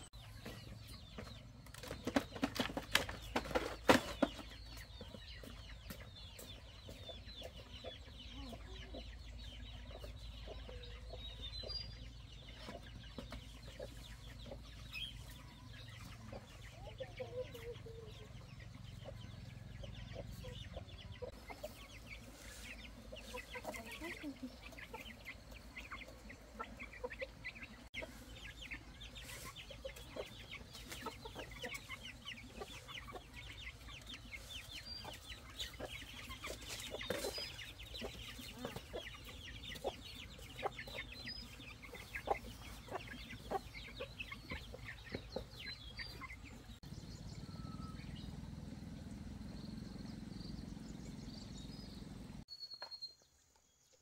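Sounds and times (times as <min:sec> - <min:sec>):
chickens clucking: 0:00.0 - 0:52.4.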